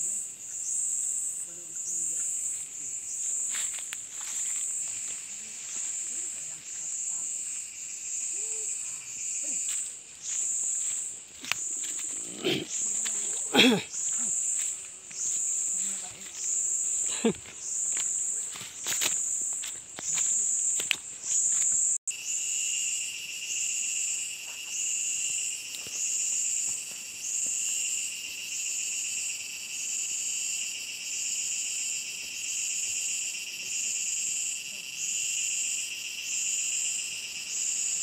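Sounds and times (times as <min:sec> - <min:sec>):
low shrill insect trill: 0:00.0 - 0:38.0
pulsing insect buzzing: 0:04.1 - 0:38.0.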